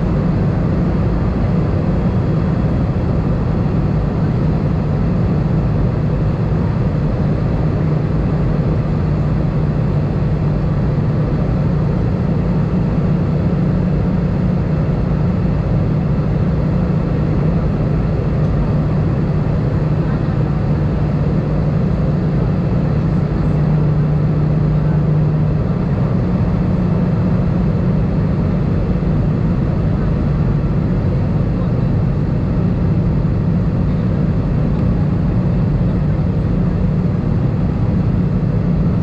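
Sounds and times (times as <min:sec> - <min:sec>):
jet engine drone in cabin: 0:00.0 - 0:39.0.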